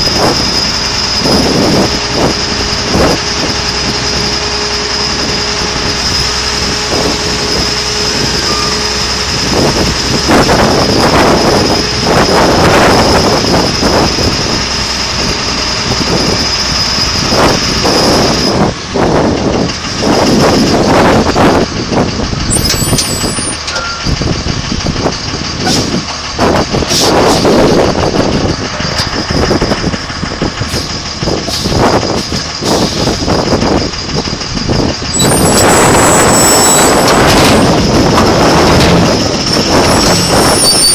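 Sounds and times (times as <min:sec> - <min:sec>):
heavy truck engine whining: 0:00.0 - 0:40.9.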